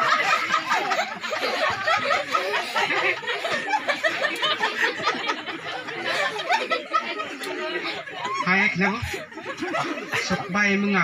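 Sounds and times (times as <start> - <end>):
crowd laughing and chattering: 0.0 - 11.0.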